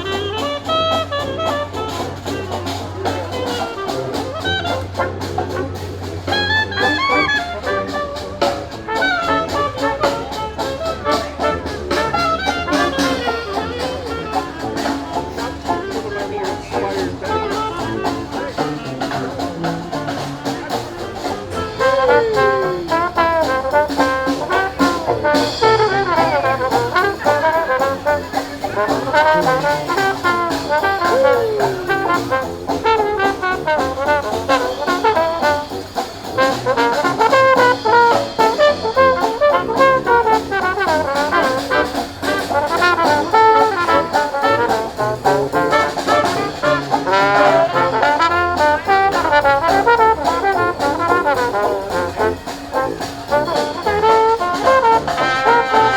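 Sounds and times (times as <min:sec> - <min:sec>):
brass band playing: 0:00.0 - 0:55.9
trombone sliding down: 0:00.1 - 0:55.9.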